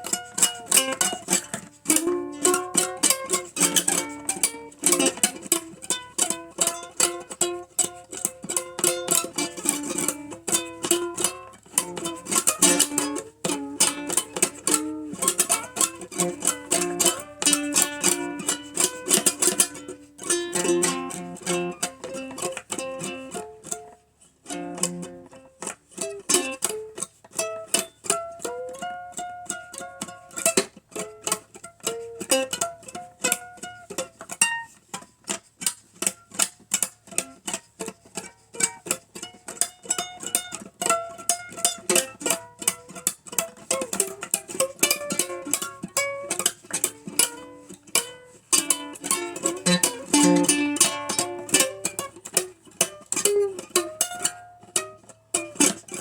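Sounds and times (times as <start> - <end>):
ukulele blues strumming: 0.0 - 56.0.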